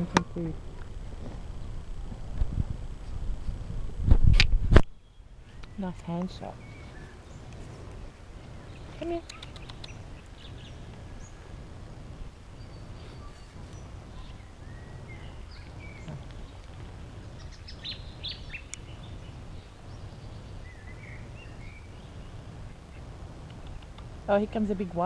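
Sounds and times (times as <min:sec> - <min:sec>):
low outdoor rumble: 0:00.0 - 0:25.0
small birds chirping: 0:04.9 - 0:25.0.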